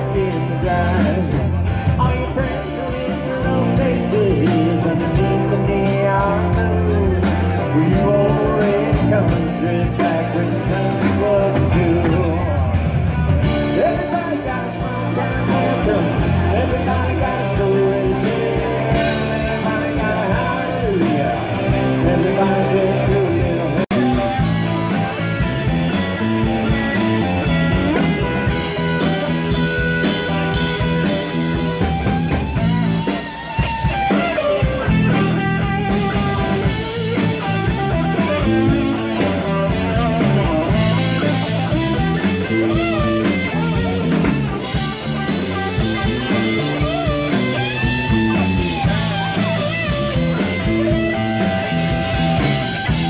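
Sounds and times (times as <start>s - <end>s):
electric guitar: 0.0s - 53.0s
live rock band: 0.0s - 53.0s.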